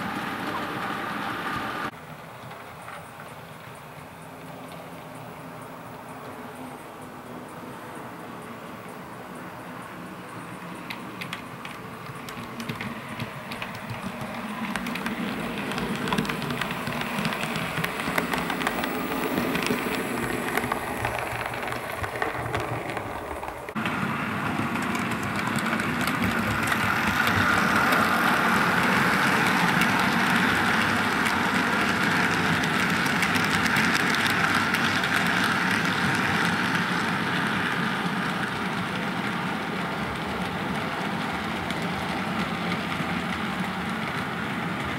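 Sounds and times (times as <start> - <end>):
model trains running: 0.0 - 44.9.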